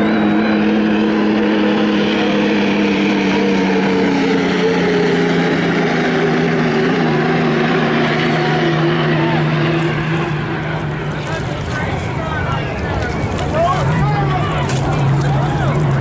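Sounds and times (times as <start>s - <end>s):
turbine engines whining: 0.0s - 16.0s.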